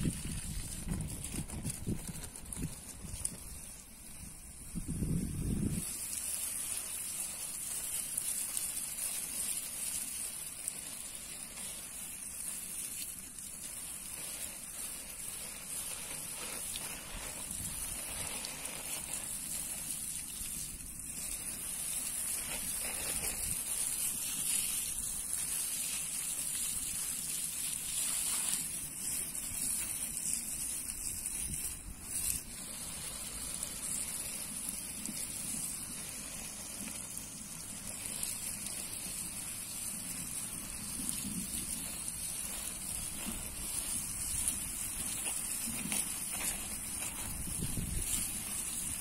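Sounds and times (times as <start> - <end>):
water spraying on leaves: 0.0 - 49.0.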